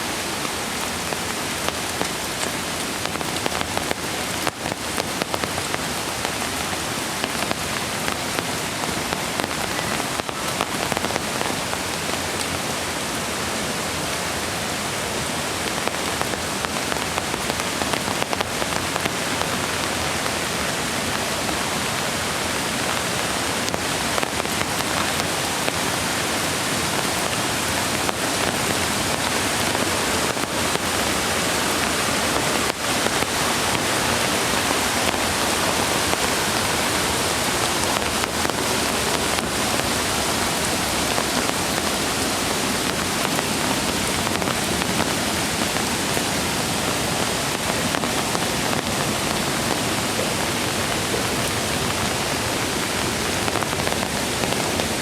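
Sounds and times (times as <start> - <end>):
rain falling on forest: 0.0 - 55.0
running creek water: 0.0 - 55.0.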